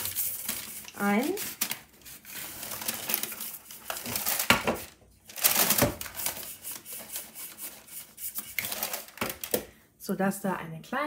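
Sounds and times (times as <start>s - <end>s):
baking paper rustling: 0.0s - 9.7s.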